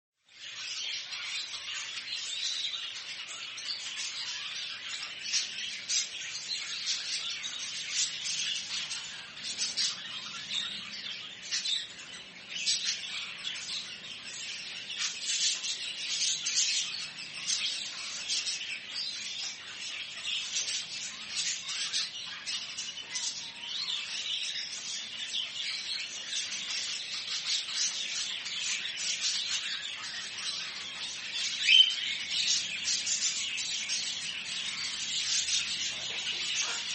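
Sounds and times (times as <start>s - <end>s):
small birds chirping and twittering: 0.2s - 36.9s.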